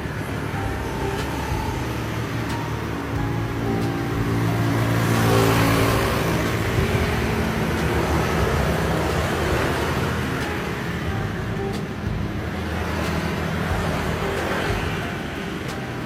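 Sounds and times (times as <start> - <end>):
steady traffic noise: 0.0 - 16.0
vehicle passing close by: 0.0 - 16.0.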